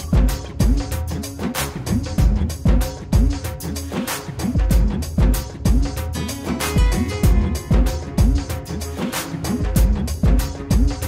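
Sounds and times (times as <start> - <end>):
electronic music with heavy beat: 0.0 - 11.0.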